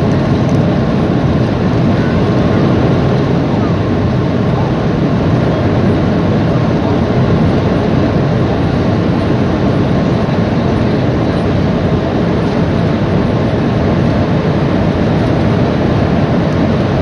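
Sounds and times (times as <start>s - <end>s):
jet engines heard from cabin: 0.0s - 17.0s
rushing air: 0.0s - 17.0s.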